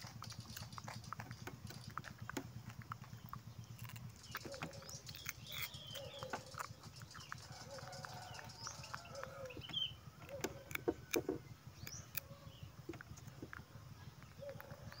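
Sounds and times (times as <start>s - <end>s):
monkey chewing cucumber: 0.0s - 15.0s.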